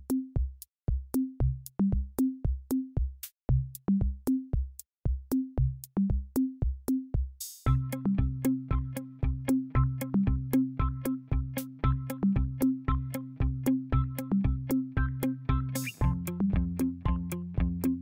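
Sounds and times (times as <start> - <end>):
drum machine beat: 0.0 - 18.0.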